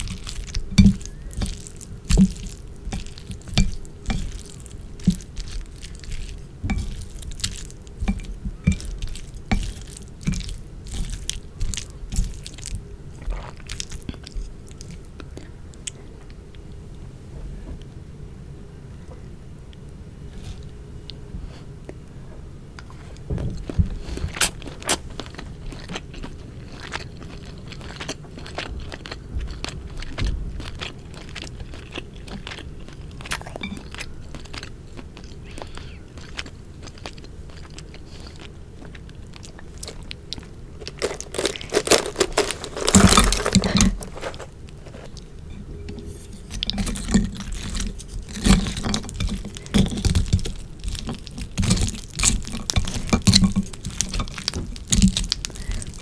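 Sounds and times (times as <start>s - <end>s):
close-miked chewing and crunching: 0.0s - 17.0s, 19.0s - 56.0s.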